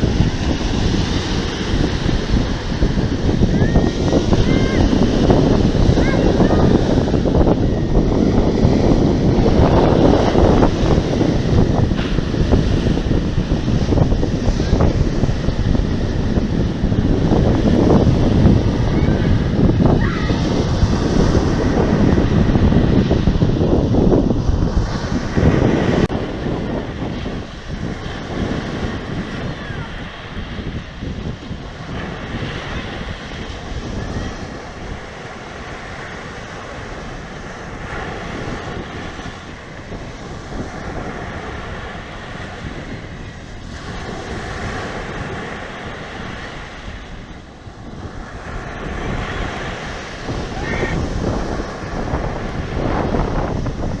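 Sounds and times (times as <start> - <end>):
sea waves breaking: 0.0 - 54.0
wind buffeting microphone: 0.0 - 54.0.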